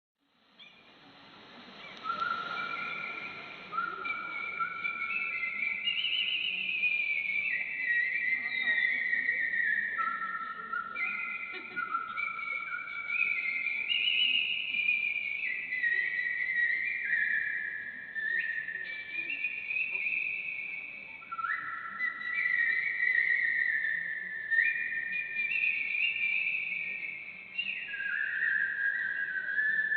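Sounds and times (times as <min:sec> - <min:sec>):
person whistling a melody: 0:02.0 - 0:29.9.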